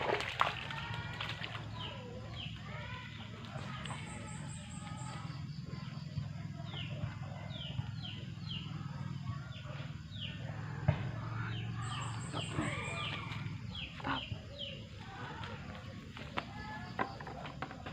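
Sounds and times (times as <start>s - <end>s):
birds chirping: 0.7s - 17.9s.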